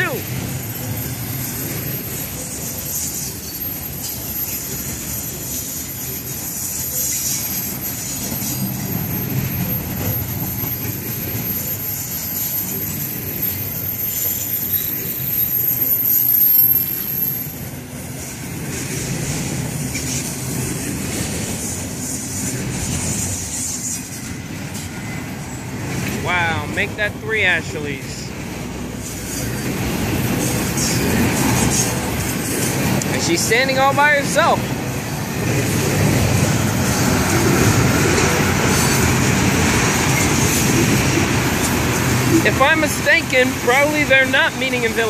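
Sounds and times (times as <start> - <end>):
freight train wheels rumbling: 0.0 - 45.0
high wheel squeal: 0.0 - 45.0.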